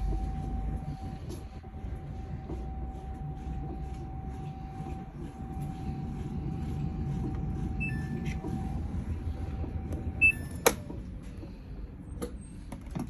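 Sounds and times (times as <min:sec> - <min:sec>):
thin machine whine: 0:00.0 - 0:11.2
washing machine rumbling: 0:00.0 - 0:13.0.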